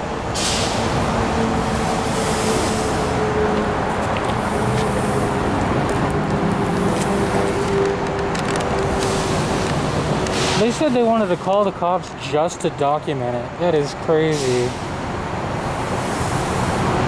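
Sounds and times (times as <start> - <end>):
constant mechanical hum: 0.0 - 17.0
road traffic noise: 0.0 - 17.0.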